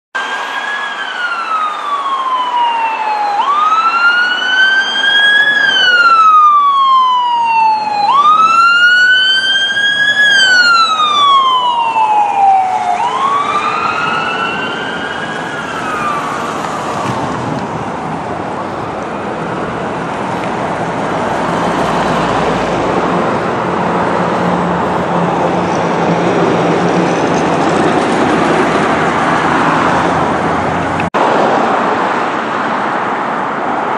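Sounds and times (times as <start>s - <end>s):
ambulance siren wailing: 0.2s - 31.1s
passing road traffic: 0.2s - 33.9s.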